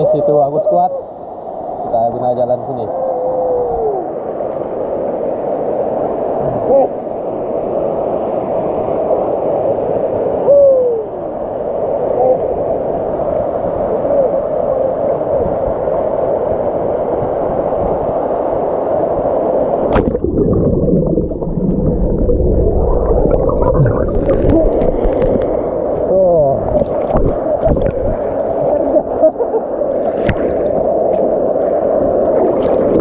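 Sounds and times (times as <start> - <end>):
mountain stream rushing and gurgling: 0.0 - 33.0.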